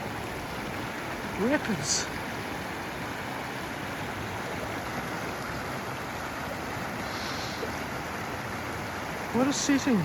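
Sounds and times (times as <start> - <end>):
river rapids and waterfall rushing: 0.0 - 10.0.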